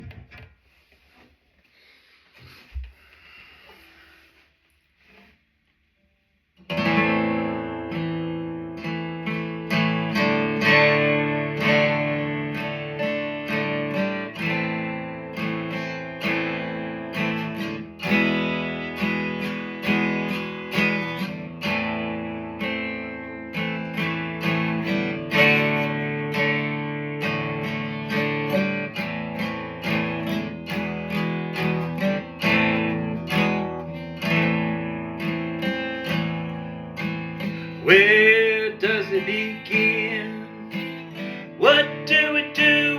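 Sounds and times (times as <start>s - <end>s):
acoustic guitar strumming chords: 6.6s - 42.9s.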